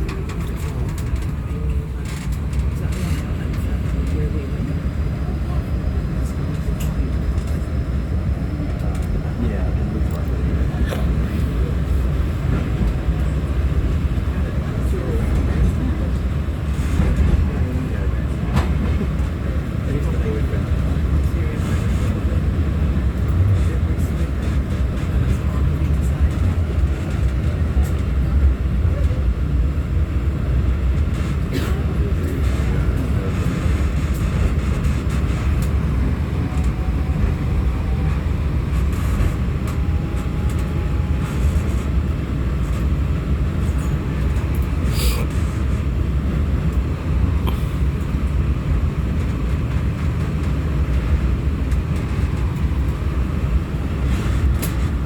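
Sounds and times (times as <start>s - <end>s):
tram wheels rumbling: 0.0s - 55.0s.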